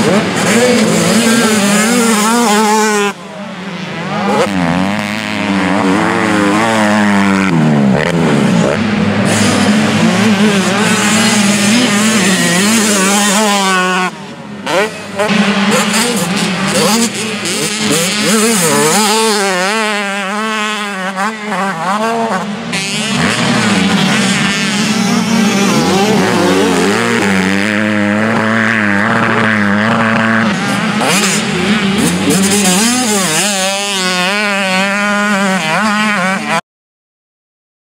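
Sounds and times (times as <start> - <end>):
motocross engines revving: 0.0 - 36.6
steady engine drone: 0.0 - 36.6.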